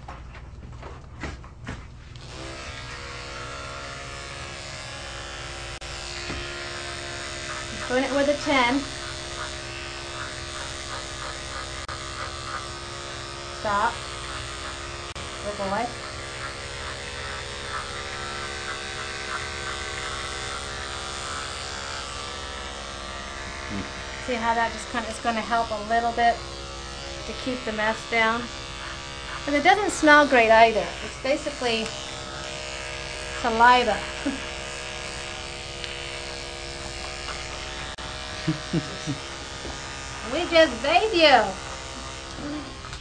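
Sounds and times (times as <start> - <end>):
electric clippers humming: 2.1 - 43.0.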